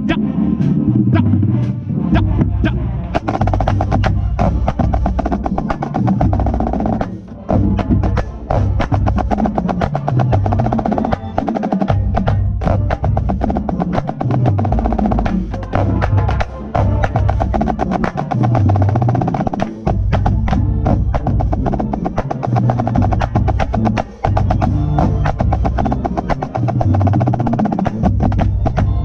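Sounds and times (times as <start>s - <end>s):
marching band playing: 0.0s - 29.0s
snare drum rolls: 2.6s - 29.0s.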